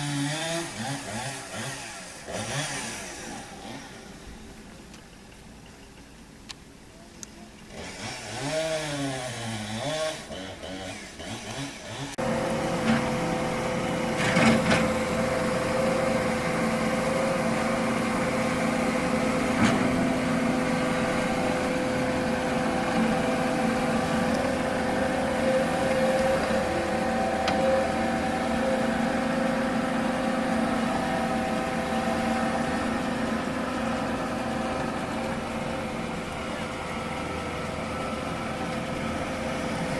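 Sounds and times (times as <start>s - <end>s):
chainsaw engine revving: 0.0s - 4.2s, 7.7s - 39.9s.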